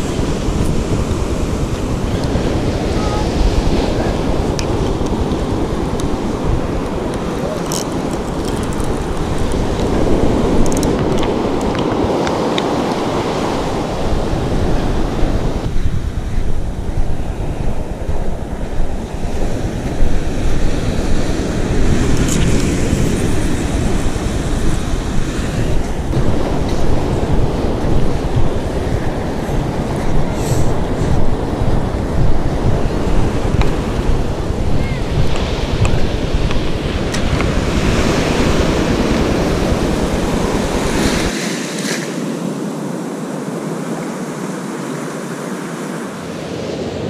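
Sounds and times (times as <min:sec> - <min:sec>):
wind buffeting microphone: 0:00.0 - 0:41.8
waves breaking on beach: 0:00.0 - 0:47.0.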